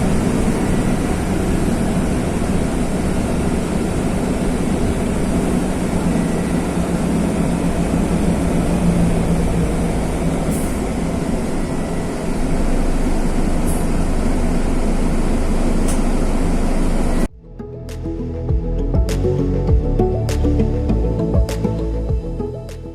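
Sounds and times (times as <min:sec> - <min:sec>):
diesel bus engine running: 0:00.0 - 0:22.9.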